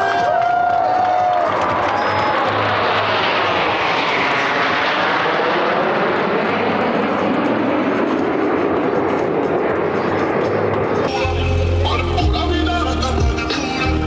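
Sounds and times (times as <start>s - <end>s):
jet aircraft passing overhead: 0.0s - 14.0s.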